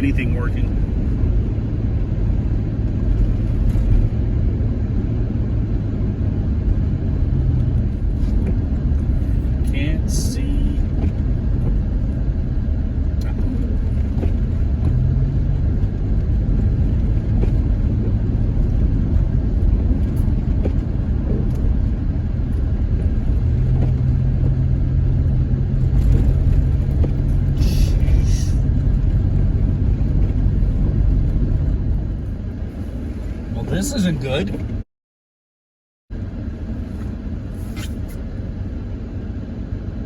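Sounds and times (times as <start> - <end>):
van engine and road rumble: 0.0 - 34.9, 36.1 - 40.0.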